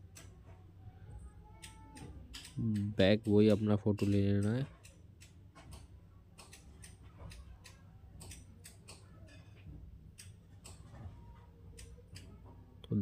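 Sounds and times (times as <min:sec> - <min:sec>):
faint irregular clicks and ticks: 0:00.0 - 0:13.0.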